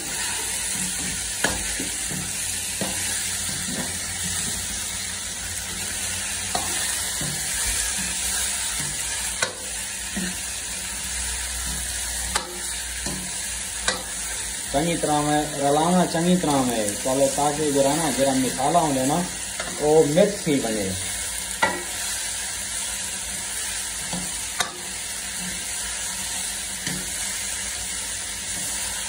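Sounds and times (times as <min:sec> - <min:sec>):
meat and vegetables sizzling: 0:00.0 - 0:29.0.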